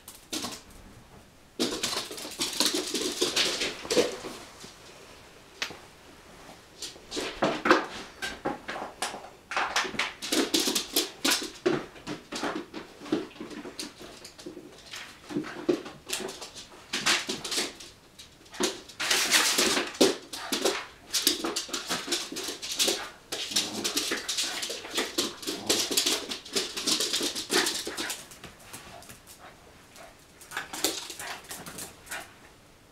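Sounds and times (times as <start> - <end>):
dogs scuffling: 0.0 - 4.9, 6.3 - 32.5.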